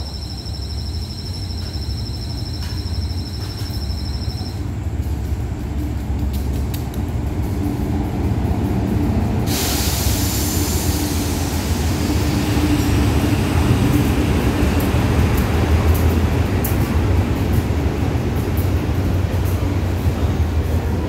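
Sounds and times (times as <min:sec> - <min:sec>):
diesel locomotive engine rumbling: 0:00.0 - 0:21.0
hiss of train wheels and machinery: 0:00.0 - 0:21.0.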